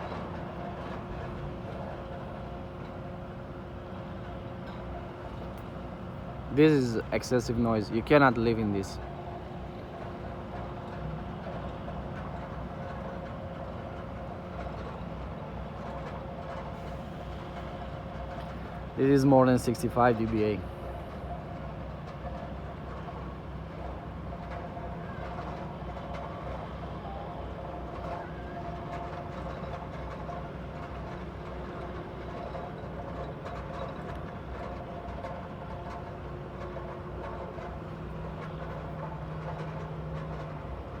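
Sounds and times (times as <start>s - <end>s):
drilling rig machinery drone: 0.0s - 41.0s.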